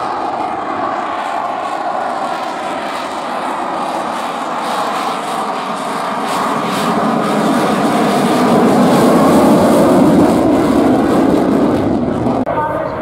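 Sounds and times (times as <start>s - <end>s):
jet plane flying overhead: 0.0s - 13.0s.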